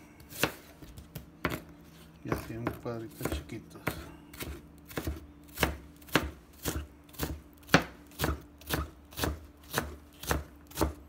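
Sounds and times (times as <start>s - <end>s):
knife chopping on cutting board: 0.2s - 1.7s, 2.3s - 11.0s.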